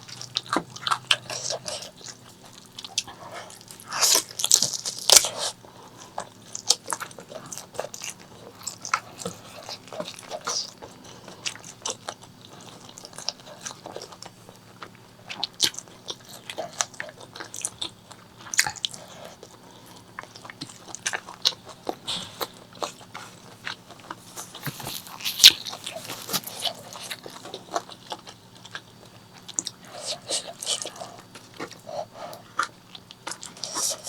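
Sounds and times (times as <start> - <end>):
wet chewing and smacking: 0.0 - 34.0.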